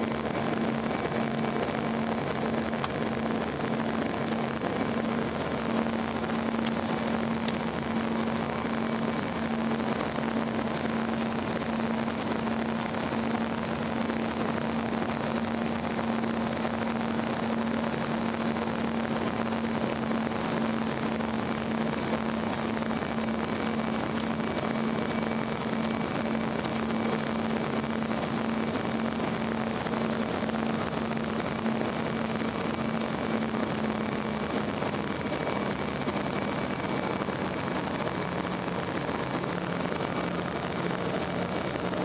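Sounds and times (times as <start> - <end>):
jet engine drone: 0.0 - 42.0.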